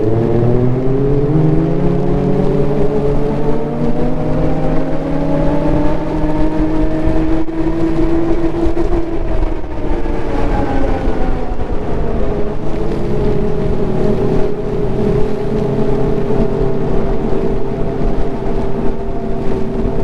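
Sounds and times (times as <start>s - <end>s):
snowmobile engine running: 0.0s - 20.0s
steady rushing noise: 0.0s - 20.0s.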